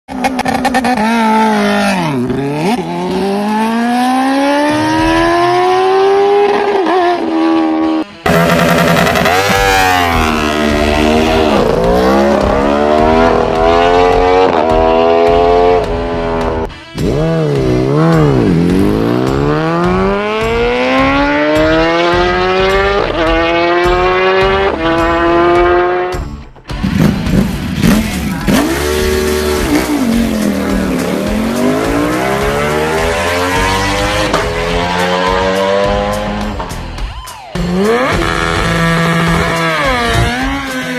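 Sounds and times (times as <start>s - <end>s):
motorcycle engine revving: 0.1s - 36.7s, 37.6s - 40.9s.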